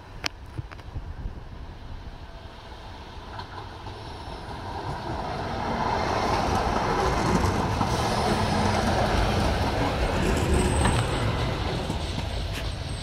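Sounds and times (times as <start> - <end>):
electric train wheels on rails: 0.0 - 13.0.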